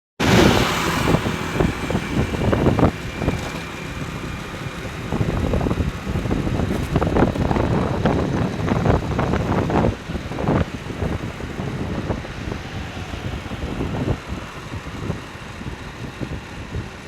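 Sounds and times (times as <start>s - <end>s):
low motorcycle rumble: 0.2s - 17.0s
wind buffeting microphone: 0.2s - 17.0s.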